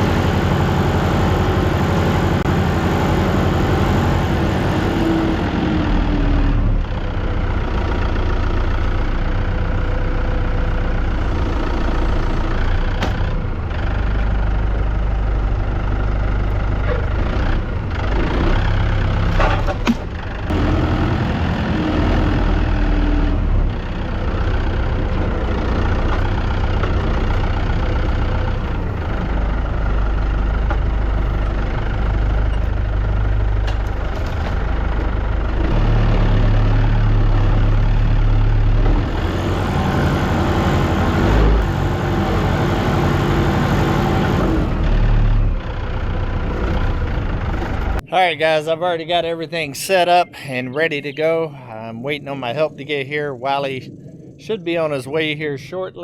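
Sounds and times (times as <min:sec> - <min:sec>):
tractor engine idling: 0:00.0 - 0:56.0.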